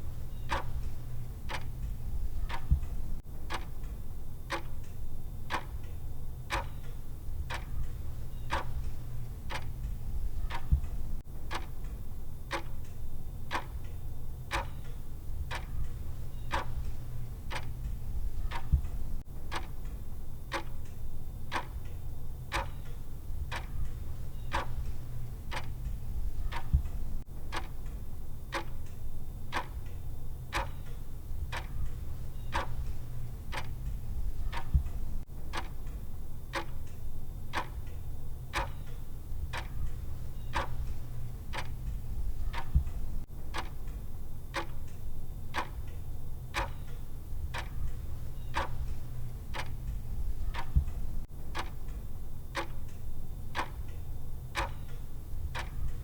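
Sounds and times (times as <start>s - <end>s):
timer ticking: 0.0s - 56.0s.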